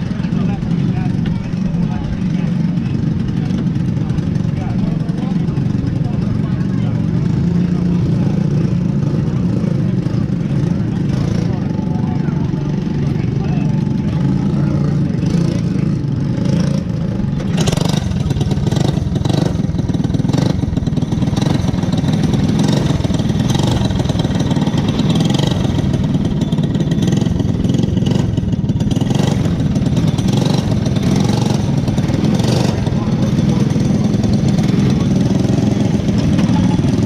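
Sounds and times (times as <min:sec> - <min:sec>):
race car engines droning: 0:00.0 - 0:37.0.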